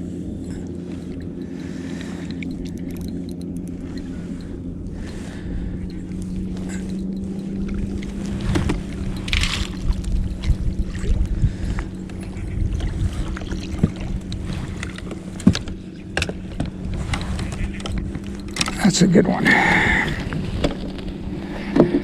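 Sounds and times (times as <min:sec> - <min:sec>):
boat motor hum: 0:00.0 - 0:22.0.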